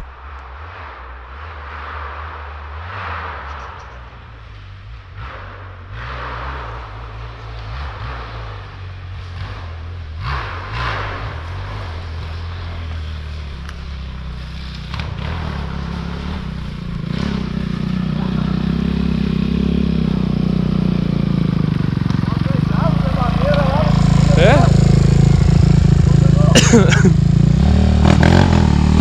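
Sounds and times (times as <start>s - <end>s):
dirt bike engine running: 1.6s - 29.0s.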